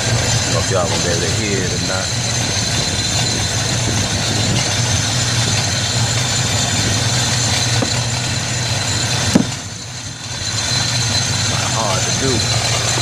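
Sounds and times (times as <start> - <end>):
car engine idling rough: 0.0 - 13.0
exhaust popping: 0.0 - 13.0.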